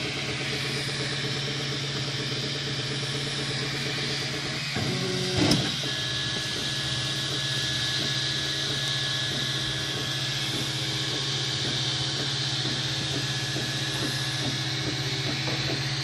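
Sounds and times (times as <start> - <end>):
cooling fans humming: 0.0 - 16.0
stepper motors whining: 0.0 - 16.0.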